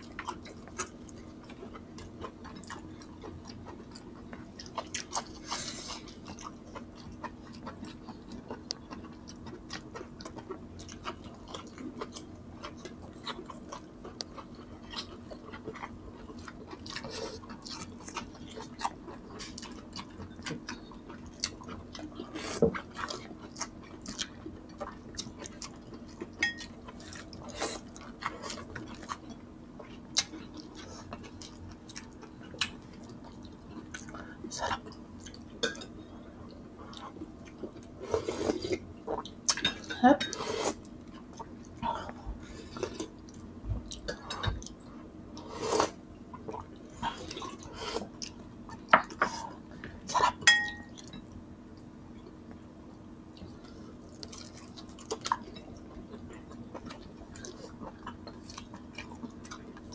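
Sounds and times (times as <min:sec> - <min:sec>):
chewing and biting food: 0:00.0 - 0:39.9, 0:40.6 - 0:52.5, 0:53.2 - 0:59.9.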